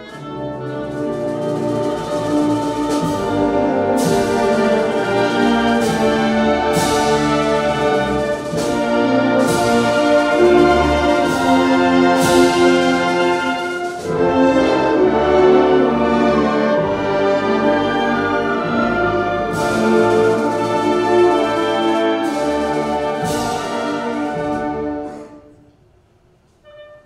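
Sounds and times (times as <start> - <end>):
wind band playing chords: 0.0 - 25.7.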